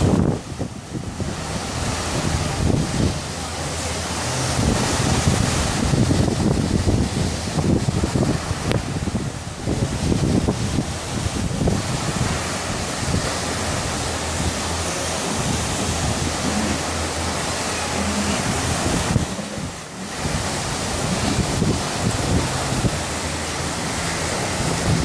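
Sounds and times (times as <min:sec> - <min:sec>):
rushing water: 0:00.0 - 0:25.0
wind buffeting microphone: 0:00.0 - 0:25.0.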